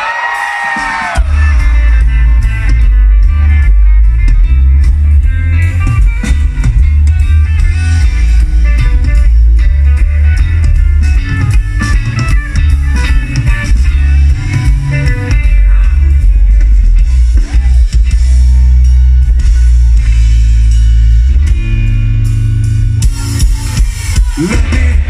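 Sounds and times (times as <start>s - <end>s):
drum kit: 0.0s - 25.0s
electric guitar: 0.0s - 25.0s
heavy bass: 0.0s - 25.0s.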